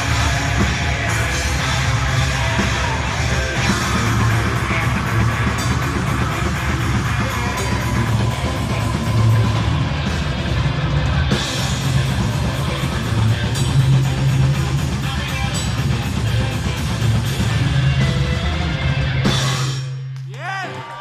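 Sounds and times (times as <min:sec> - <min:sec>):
bass guitar: 0:00.0 - 0:20.8
driving drums: 0:00.0 - 0:20.8
distorted electric guitars: 0:00.0 - 0:21.0.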